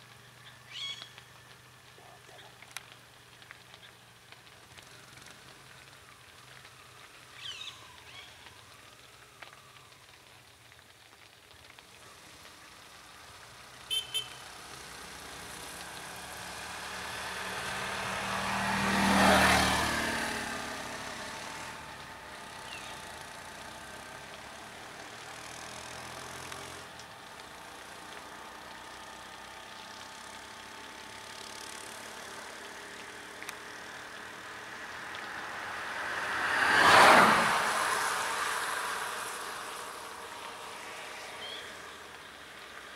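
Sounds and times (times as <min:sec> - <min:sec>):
auto-rickshaw engine passing: 0:02.7 - 0:10.2, 0:11.0 - 0:42.9.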